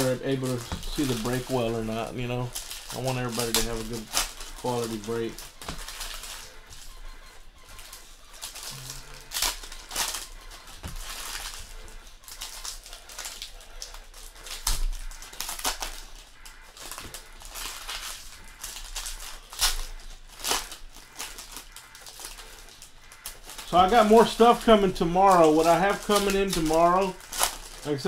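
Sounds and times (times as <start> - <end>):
foil wrappers tearing and crinkling: 0.0 - 28.0.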